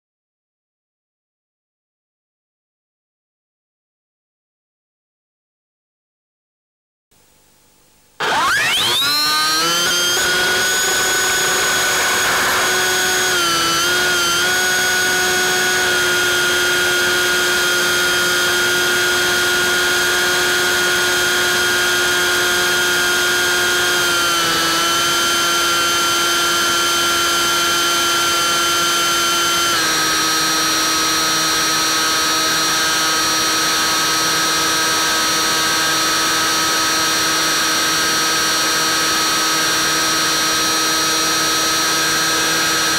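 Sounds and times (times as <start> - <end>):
electric motor and propeller whine: 8.2 - 42.9.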